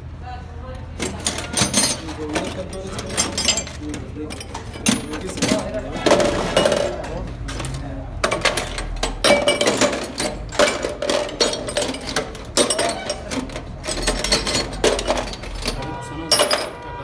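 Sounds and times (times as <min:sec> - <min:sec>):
metallic clinks and knocks: 0:01.0 - 0:16.9.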